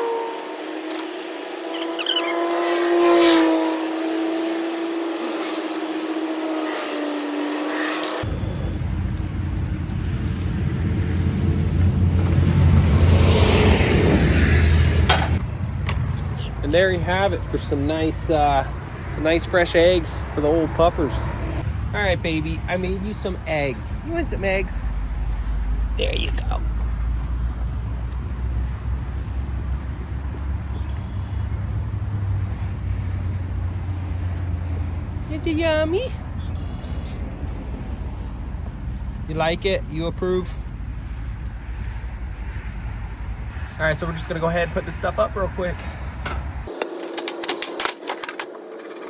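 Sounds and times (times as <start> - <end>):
passing vehicle rumble: 0.0 - 46.8.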